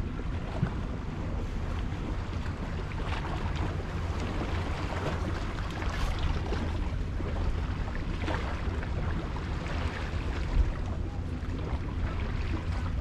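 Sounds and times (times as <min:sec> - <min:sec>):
faint splashes: 0:00.0 - 0:13.0
small waves lapping: 0:00.0 - 0:13.0
wind rumbling on microphone: 0:00.0 - 0:13.0.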